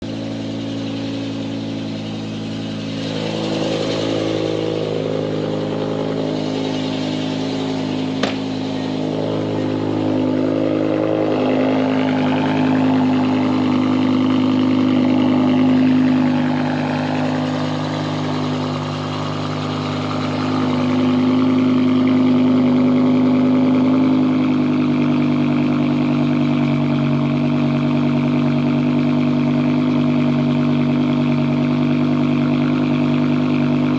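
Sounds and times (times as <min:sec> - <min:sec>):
car engine at low revs: 0:00.0 - 0:33.9.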